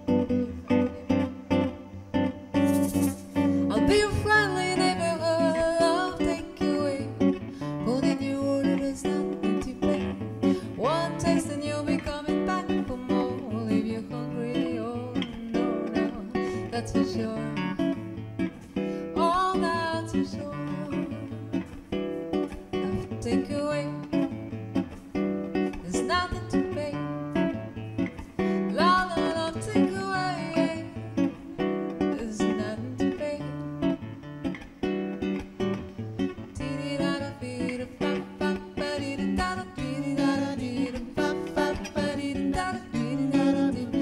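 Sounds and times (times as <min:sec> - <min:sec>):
woman singing: 0:00.0 - 0:02.2, 0:02.9 - 0:34.3, 0:36.2 - 0:44.0
guitar playing chords: 0:00.0 - 0:44.0.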